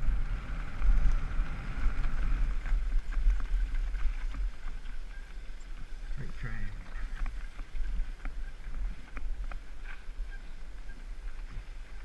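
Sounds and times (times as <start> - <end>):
bike tyres on gravel: 0.0 - 12.0
wind buffeting microphone: 0.0 - 12.0.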